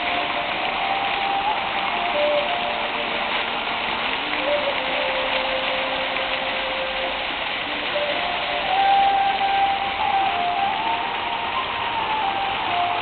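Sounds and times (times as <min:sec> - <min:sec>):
fountain water splashing: 0:00.0 - 0:13.0
melody of held notes: 0:00.0 - 0:13.0.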